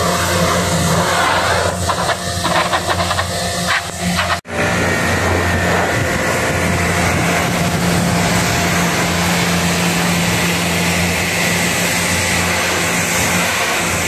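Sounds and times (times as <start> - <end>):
pressure washer jet hissing: 0.0 - 4.4, 6.9 - 14.0
low motor hum: 0.0 - 14.0.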